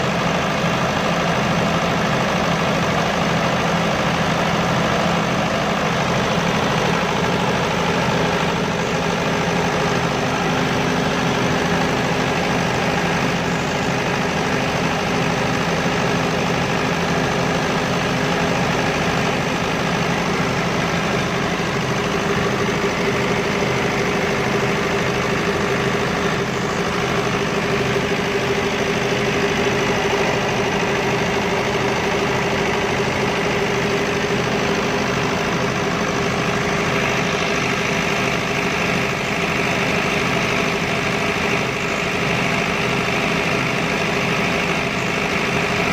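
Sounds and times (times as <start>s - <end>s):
diesel generator running: 0.0s - 45.9s.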